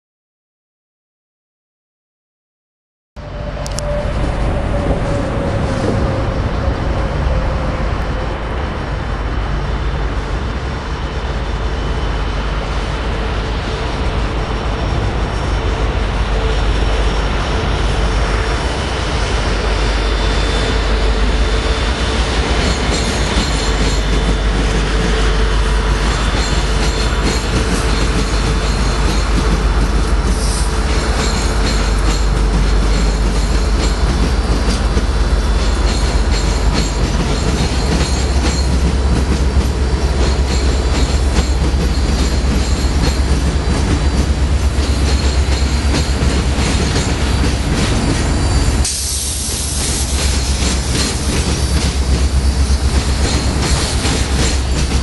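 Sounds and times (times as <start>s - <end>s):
diesel locomotives passing: 3.2s - 55.0s.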